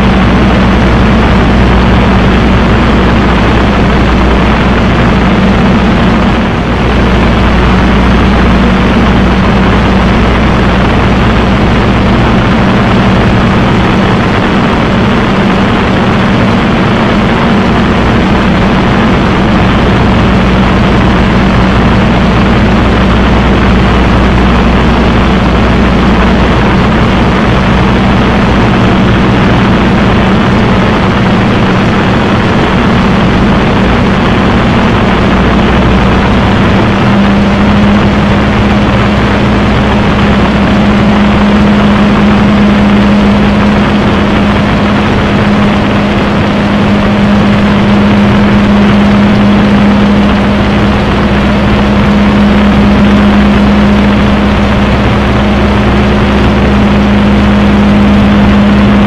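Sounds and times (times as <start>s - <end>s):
propeller plane engine droning: 0.0s - 59.0s
rush of airflow: 0.0s - 59.0s.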